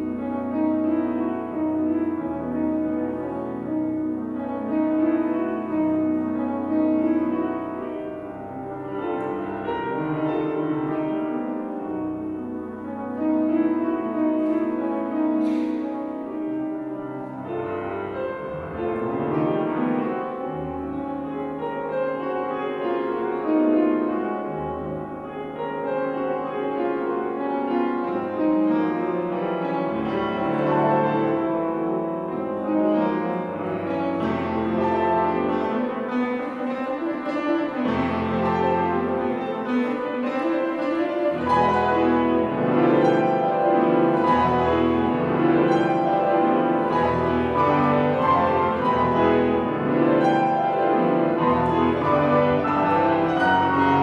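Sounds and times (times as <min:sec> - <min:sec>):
classical grand piano piece: 0:00.0 - 0:54.0.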